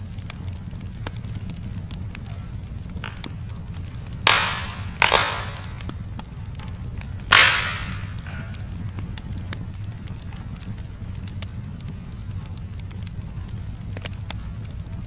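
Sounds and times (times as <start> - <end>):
burning logs popping: 0.0 - 15.0
wood fire crackling: 0.0 - 15.0.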